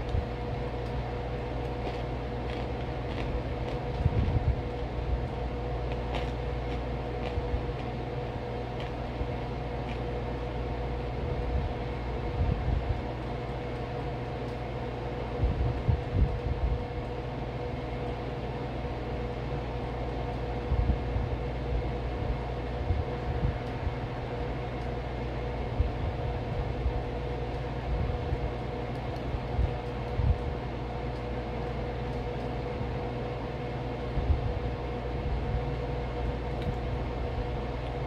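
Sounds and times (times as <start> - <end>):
machine hum with fixed tones: 0.0 - 38.0.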